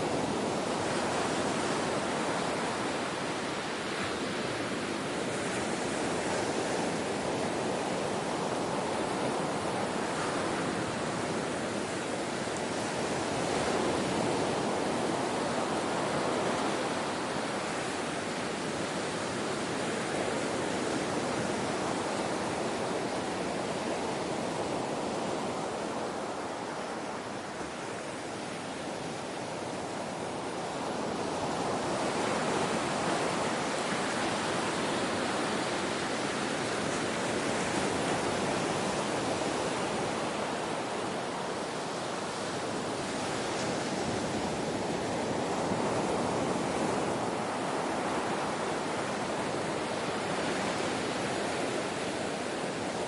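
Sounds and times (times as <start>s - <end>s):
ocean waves washing in: 0.0s - 53.0s.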